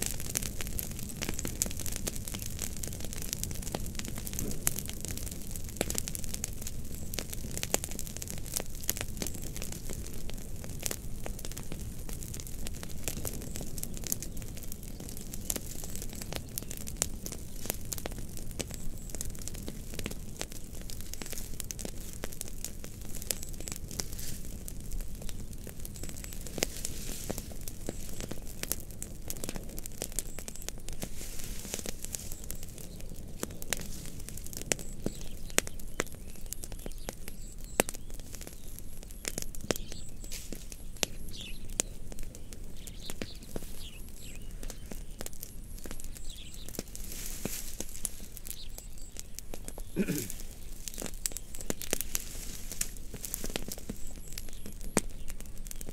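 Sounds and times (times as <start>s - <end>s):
fire crackling and popping: 0.0s - 55.9s.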